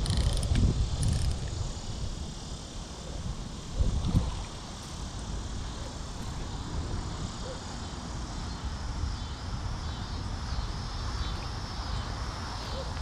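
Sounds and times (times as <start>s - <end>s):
gusty wind on microphone: 0.0s - 12.6s
constant hiss: 0.0s - 13.0s.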